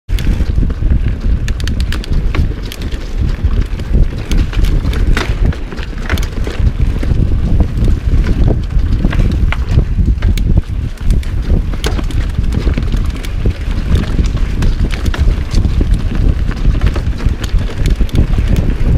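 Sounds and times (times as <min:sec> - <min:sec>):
bike clicks and rattles: 0:00.1 - 0:18.9
tyres rolling over dirt: 0:00.1 - 0:18.9
wind buffeting microphone: 0:00.1 - 0:18.9.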